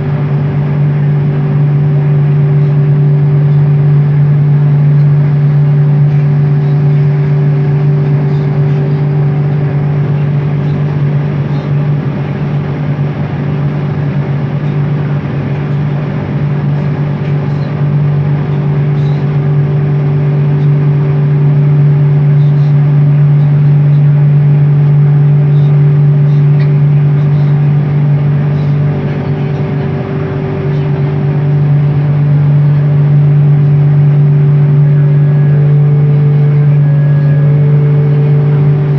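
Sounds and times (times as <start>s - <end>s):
metro train motor hum: 0.0s - 38.9s
wheels rumbling on track: 0.0s - 38.9s.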